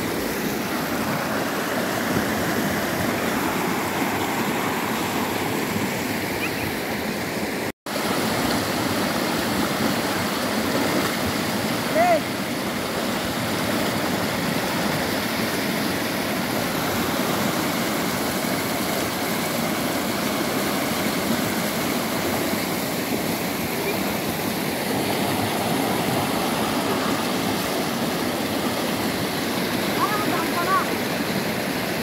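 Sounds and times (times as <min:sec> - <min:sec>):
river water rushing over rapids: 0:00.0 - 0:32.0.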